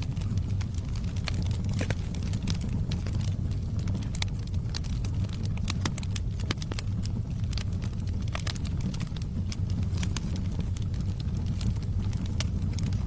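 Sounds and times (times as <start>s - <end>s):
fire crackles and pops: 0.0s - 13.0s
fire rumbling: 0.0s - 13.0s.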